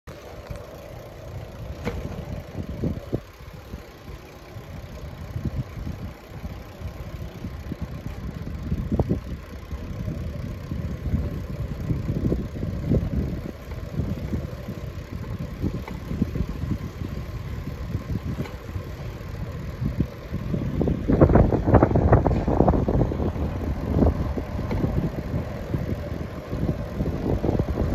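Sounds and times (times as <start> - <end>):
wind buffeting microphone: 1.0 - 27.9.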